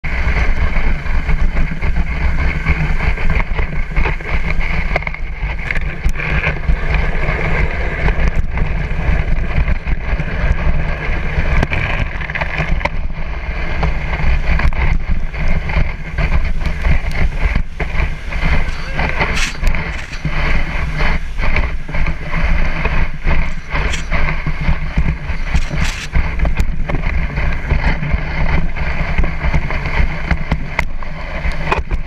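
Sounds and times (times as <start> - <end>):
sled scraping over gravelly snow: 0.0 - 32.0
wind on microphone: 0.0 - 32.0.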